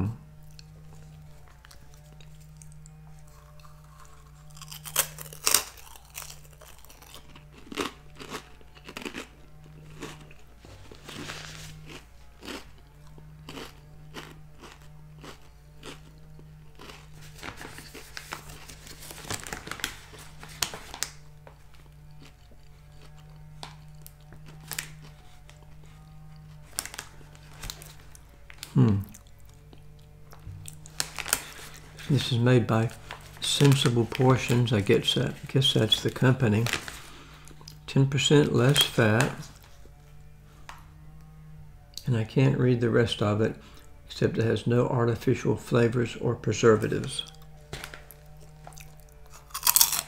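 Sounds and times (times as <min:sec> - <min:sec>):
person crunching crisp snack: 0:00.4 - 0:39.8, 0:46.9 - 0:50.0.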